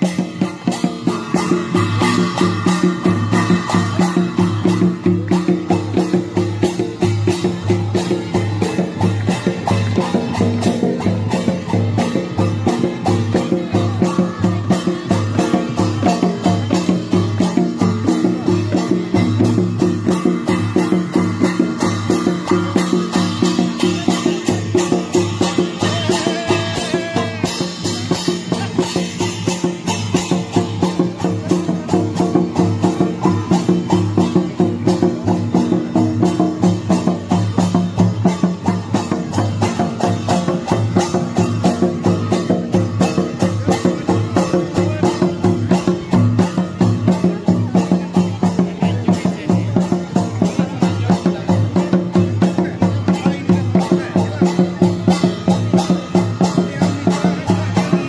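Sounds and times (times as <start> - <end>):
hand drums playing dance rhythm: 0.0 - 58.0.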